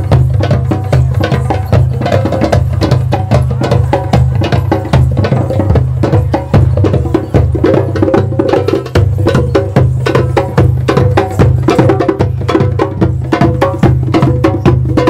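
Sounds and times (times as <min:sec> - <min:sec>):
music with fast percussion beat: 0:00.0 - 0:15.0.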